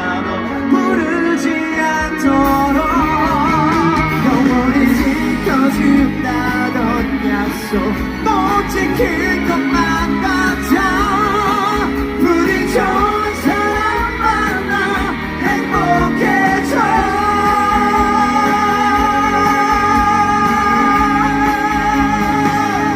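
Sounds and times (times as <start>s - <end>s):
live rock band: 0.0s - 22.9s
male lead singer: 0.0s - 22.9s.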